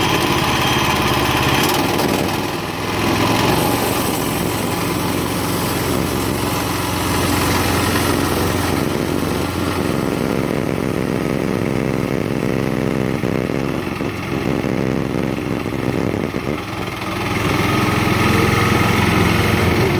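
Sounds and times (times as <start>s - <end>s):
gas engine running: 0.0s - 19.9s.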